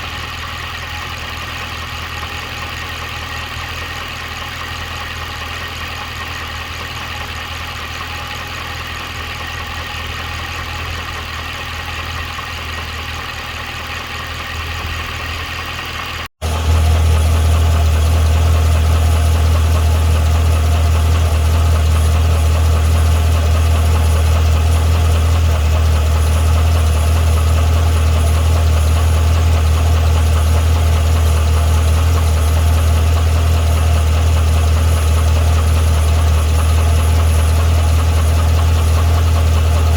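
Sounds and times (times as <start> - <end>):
car engine idling: 0.0 - 39.9
engine ticking or knocking: 0.1 - 39.9.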